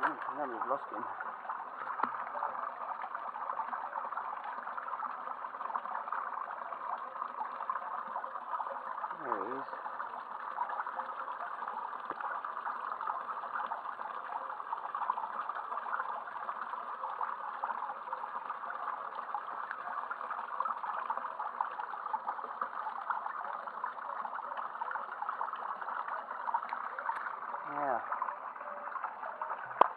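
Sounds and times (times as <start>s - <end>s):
running water trickling: 0.0s - 29.9s.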